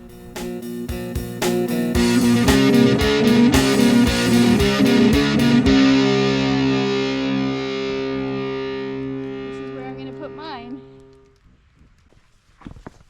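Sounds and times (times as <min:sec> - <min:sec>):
guitar-led rock music: 0:00.0 - 0:11.3.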